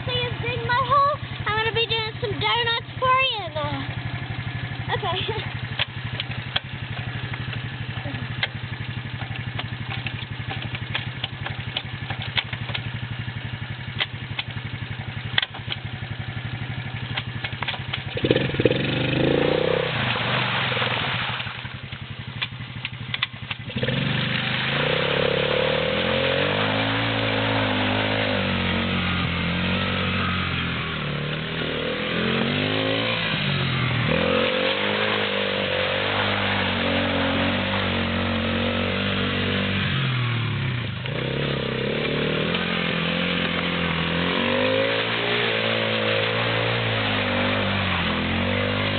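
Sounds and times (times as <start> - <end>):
atv engine idling and revving: 0.0 - 48.9.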